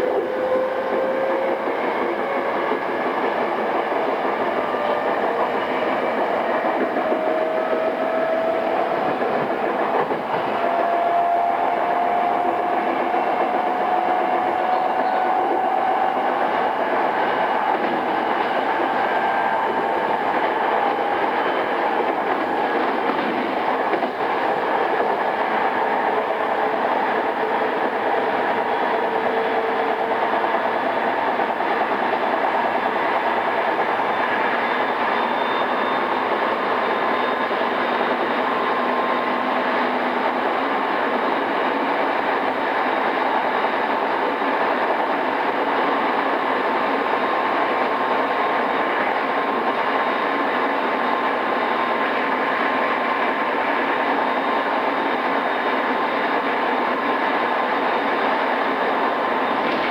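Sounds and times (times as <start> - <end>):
train rail and wheel noise: 0.0 - 59.9.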